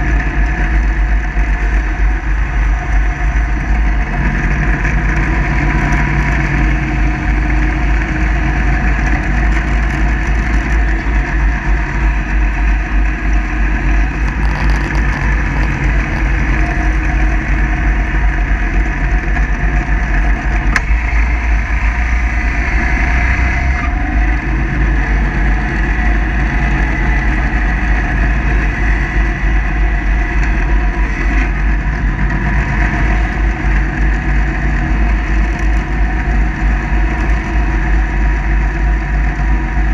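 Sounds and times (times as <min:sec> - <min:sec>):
mower engine droning: 0:00.0 - 0:39.9.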